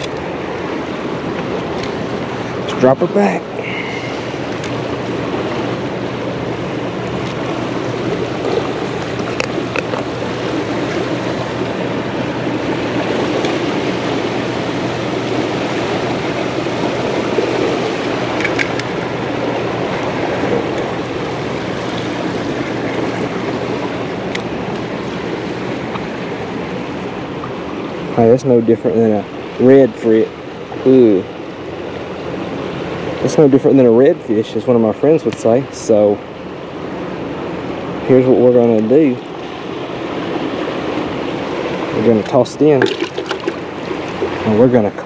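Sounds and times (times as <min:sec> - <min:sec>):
churning water rushing: 0:00.0 - 0:45.0.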